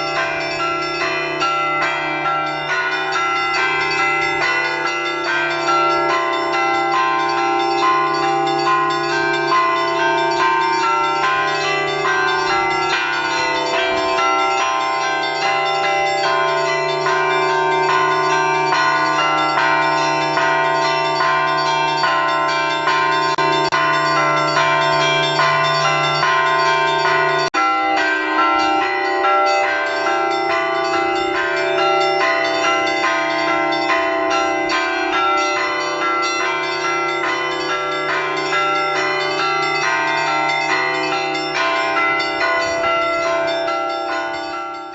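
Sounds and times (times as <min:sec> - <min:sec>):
church bells pealing: 0:00.0 - 0:44.9
deep low bell: 0:00.0 - 0:44.9.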